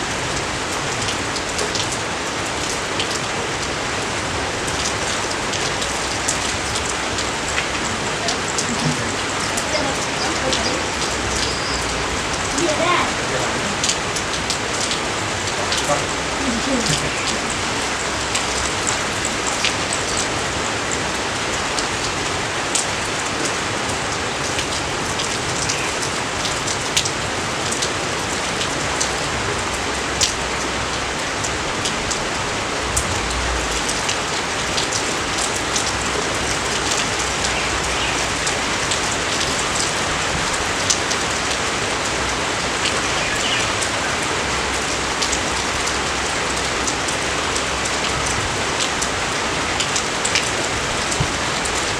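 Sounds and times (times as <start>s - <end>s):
raindrops ticking: 0.0s - 51.9s
steady rain falling: 0.0s - 51.9s.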